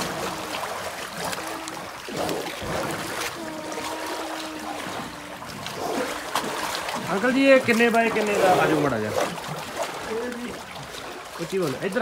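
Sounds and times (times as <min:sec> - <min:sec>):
short splashes: 0:00.0 - 0:12.0
water sloshing: 0:00.0 - 0:12.0.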